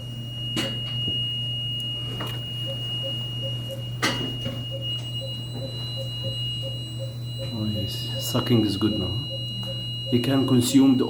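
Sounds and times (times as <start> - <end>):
high electrical whine and hum: 0.0 - 11.0
pulse oximeter beeps: 0.0 - 11.0.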